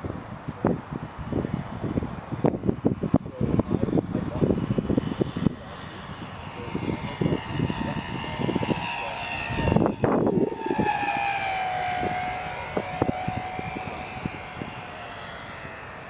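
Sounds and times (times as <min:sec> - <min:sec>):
wind buffeting microphone: 0:00.0 - 0:16.0
model plane motor whining: 0:00.6 - 0:16.0.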